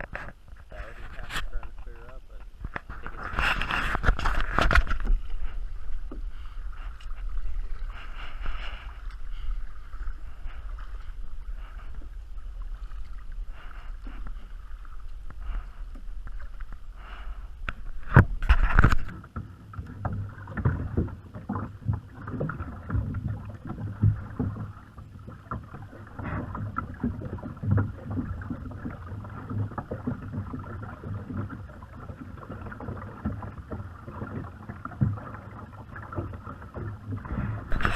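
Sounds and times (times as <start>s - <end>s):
paddle strokes: 0.0s - 37.9s.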